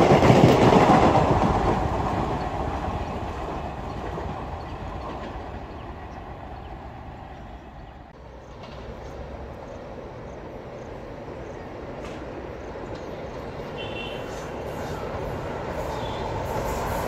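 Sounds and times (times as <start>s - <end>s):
express trains rumbling: 0.0s - 17.0s.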